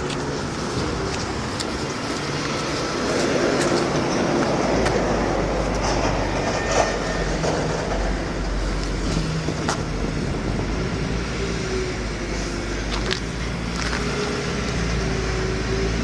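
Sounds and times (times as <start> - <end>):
low mechanical rumble: 0.0 - 15.8.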